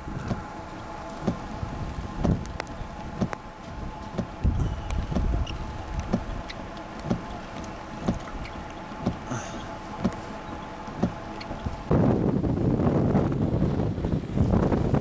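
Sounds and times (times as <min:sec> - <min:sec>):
low hum: 0:00.0 - 0:15.0
wind rumbling on microphone: 0:00.0 - 0:15.0.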